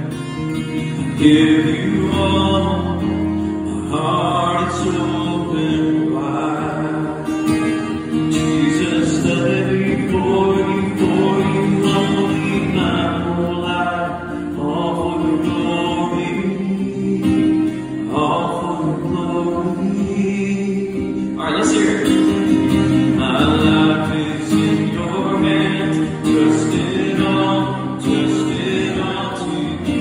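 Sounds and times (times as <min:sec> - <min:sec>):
worship song with singing: 0:01.2 - 0:03.0, 0:03.8 - 0:07.8, 0:08.4 - 0:22.1, 0:23.2 - 0:30.0.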